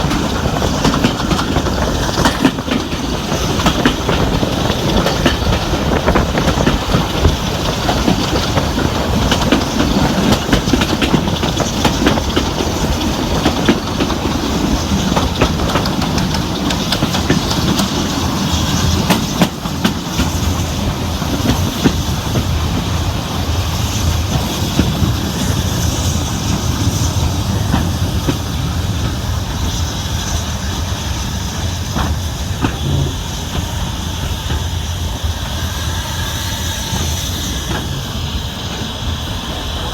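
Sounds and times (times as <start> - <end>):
train wheels clattering on track: 0.0 - 39.9.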